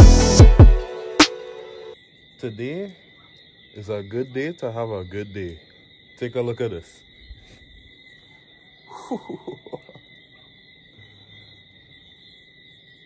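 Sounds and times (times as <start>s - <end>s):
insects trilling: 1.0s - 13.0s.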